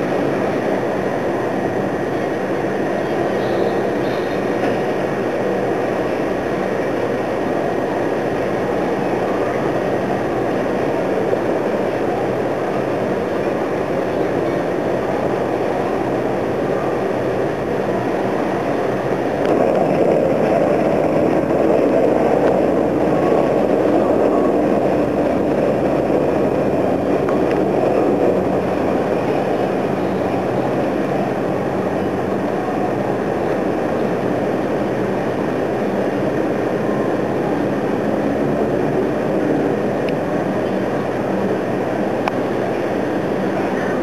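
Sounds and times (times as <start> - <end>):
propeller engines droning: 0.0 - 44.0.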